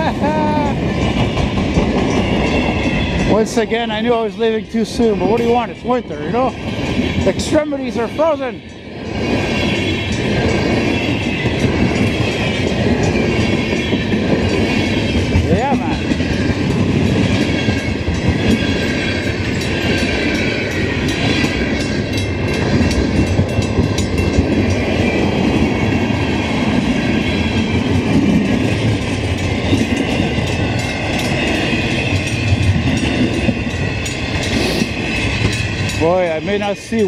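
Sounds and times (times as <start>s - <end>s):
train wheels rumbling on rail: 0.0s - 37.0s
wheels clacking over rail joints: 0.7s - 37.0s.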